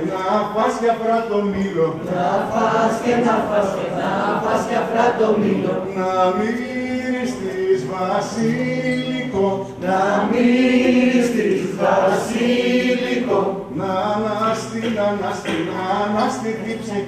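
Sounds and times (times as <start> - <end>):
group singing unaccompanied: 1.5 - 17.0.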